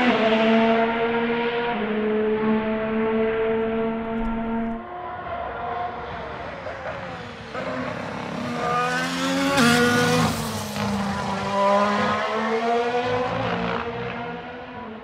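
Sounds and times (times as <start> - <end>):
race car engine passing: 0.0 - 15.0.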